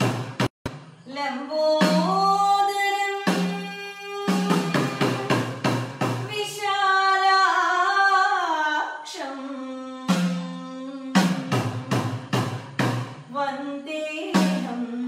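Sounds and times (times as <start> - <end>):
woman singing: 1.0 - 5.5, 6.2 - 12.5, 13.3 - 15.0.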